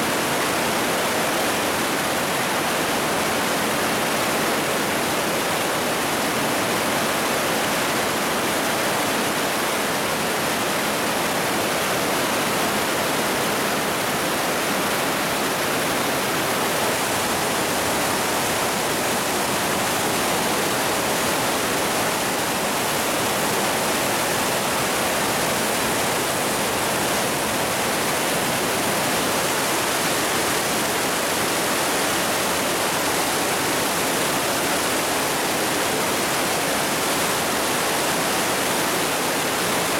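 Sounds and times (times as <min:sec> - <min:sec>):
river rushing through gorge: 0:00.0 - 0:39.9.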